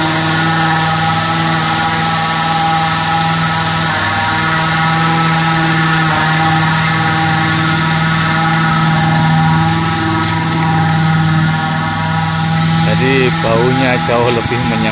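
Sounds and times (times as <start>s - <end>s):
engine droning: 0.0s - 14.9s
steady high hiss: 0.0s - 14.9s.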